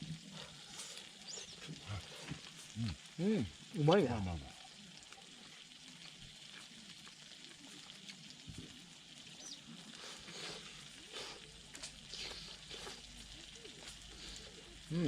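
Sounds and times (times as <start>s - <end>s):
food sizzling on a grill: 0.0s - 15.0s.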